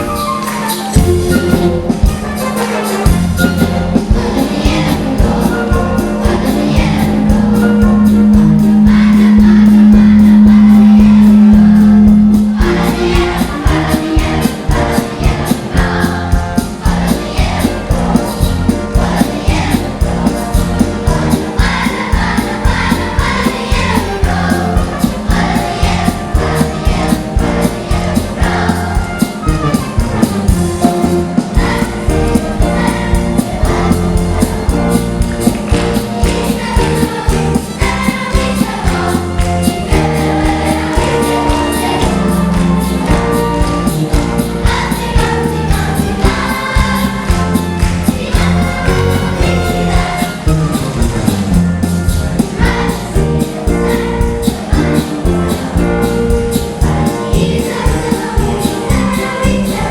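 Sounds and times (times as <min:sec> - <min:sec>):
children's choir singing: 0:00.0 - 0:59.9
instrumental accompaniment with beat: 0:00.0 - 0:59.9.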